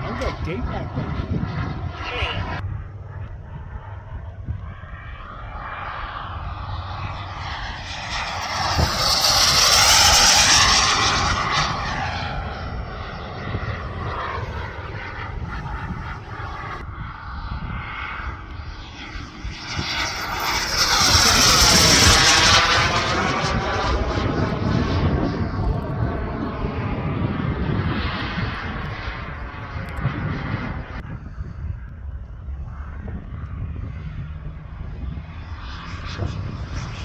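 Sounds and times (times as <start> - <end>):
model aircraft motor passing: 0.0 - 31.0
wind rumble on microphone: 0.0 - 37.0.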